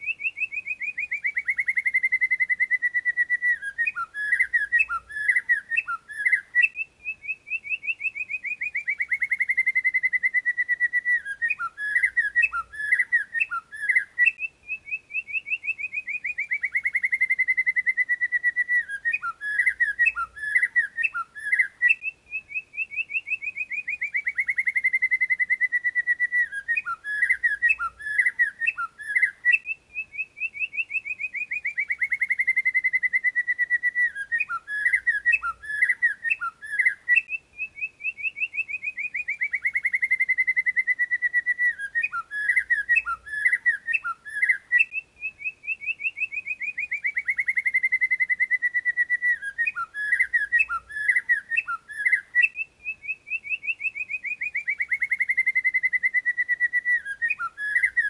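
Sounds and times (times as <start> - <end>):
bird chirps: 0.0 - 58.0
bird trilling and whistling: 0.0 - 58.0.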